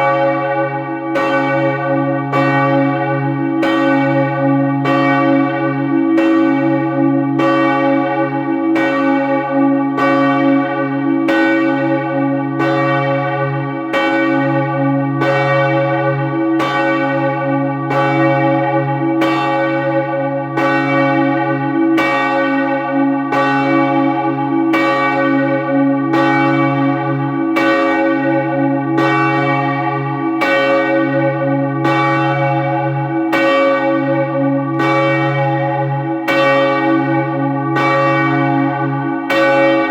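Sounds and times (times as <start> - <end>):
heavy church bell ringing: 0.0 - 39.9.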